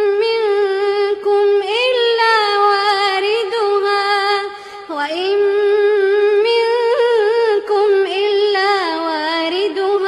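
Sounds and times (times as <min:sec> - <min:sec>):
person reciting in sung voice: 0:00.0 - 0:10.0.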